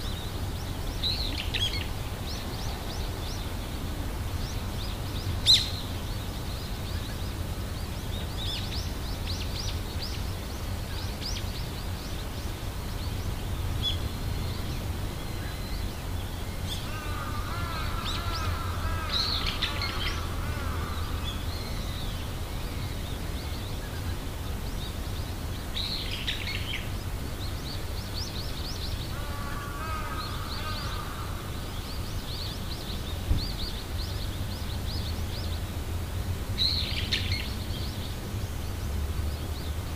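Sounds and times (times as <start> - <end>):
birds chirping: 0.0 - 39.9
low outdoor rumble: 0.0 - 39.9.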